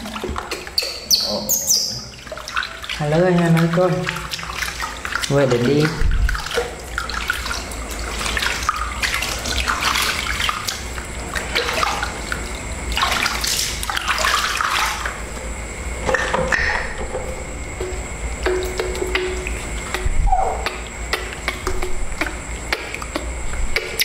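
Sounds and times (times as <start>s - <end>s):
water splashing and dripping: 0.0s - 15.4s, 16.1s - 24.0s.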